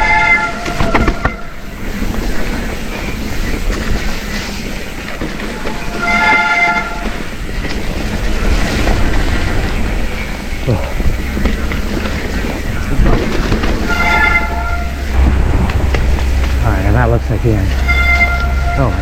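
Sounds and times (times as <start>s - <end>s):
disc brakes squealing: 0.0s - 15.2s, 16.5s - 19.0s
bike tyre and wind rush: 0.0s - 19.0s
bike rattling over rocks: 0.7s - 18.7s.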